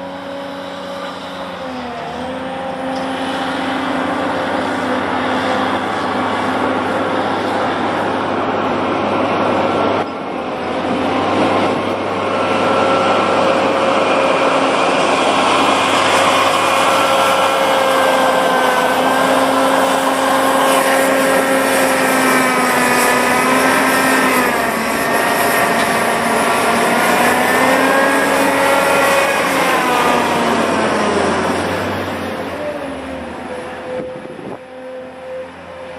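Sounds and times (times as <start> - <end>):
large engine running: 0.0 - 35.9
mechanical rush: 3.5 - 34.6.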